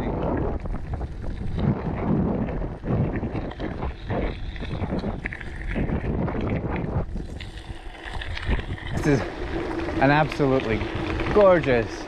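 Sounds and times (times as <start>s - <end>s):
mountain bike rumble and rattles: 0.0s - 12.0s
wind buffeting microphone: 0.0s - 12.0s.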